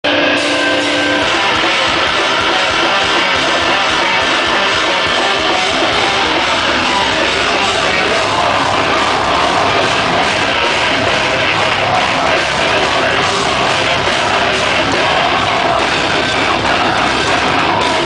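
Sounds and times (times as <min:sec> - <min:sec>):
drums: 0:00.0 - 0:18.0
electric guitar: 0:00.0 - 0:18.0
live rock band playing: 0:00.0 - 0:18.0.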